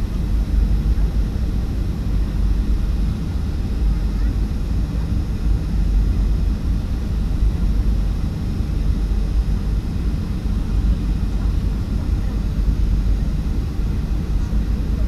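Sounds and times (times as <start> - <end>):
airliner engines rumbling: 0.0 - 15.0.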